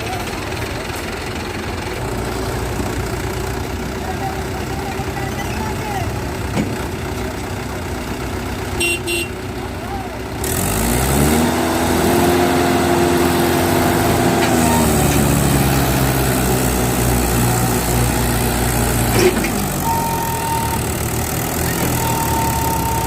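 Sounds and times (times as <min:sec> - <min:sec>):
tractor engine revving: 0:00.0 - 0:23.0.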